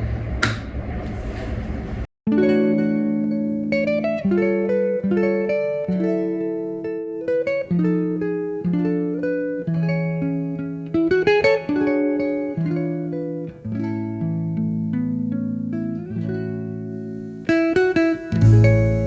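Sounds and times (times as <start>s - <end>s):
plucked guitar music: 2.3s - 19.0s.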